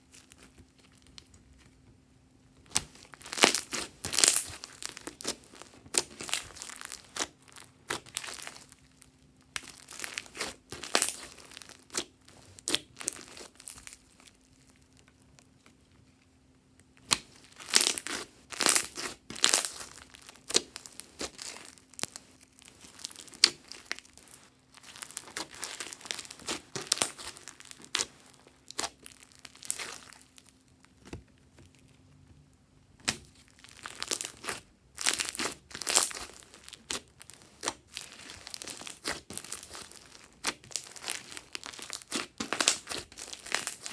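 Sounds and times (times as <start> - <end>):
hands squishing slime: 2.6 - 14.8, 17.0 - 31.8, 33.0 - 43.9.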